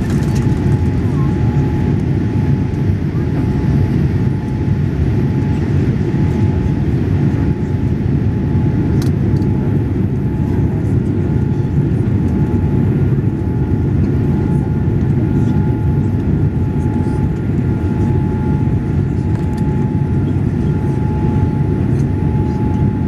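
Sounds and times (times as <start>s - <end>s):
deep roar of engines and airflow: 0.0s - 23.0s.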